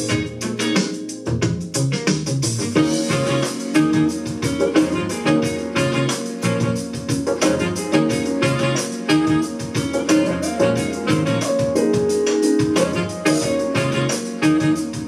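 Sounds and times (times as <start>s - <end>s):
keyboard chords: 0.0s - 15.0s
quick steady drum beat: 0.0s - 15.0s.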